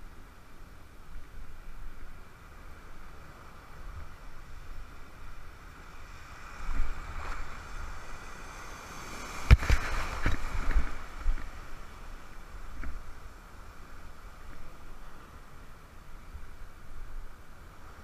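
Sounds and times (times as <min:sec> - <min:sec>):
surf waves splashing: 0:00.0 - 0:18.0
wave breaking over camera: 0:02.8 - 0:17.4.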